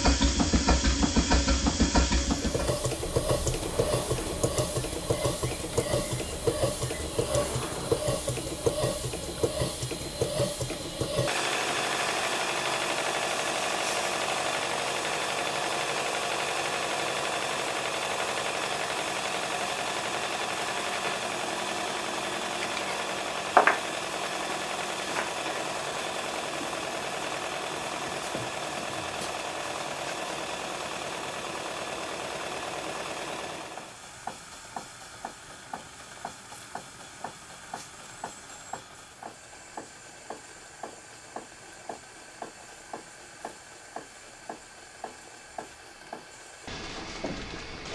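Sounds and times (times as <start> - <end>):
model engine ticking slowly: 0.0 - 47.4
steam engine hissing and clattering: 0.0 - 47.9.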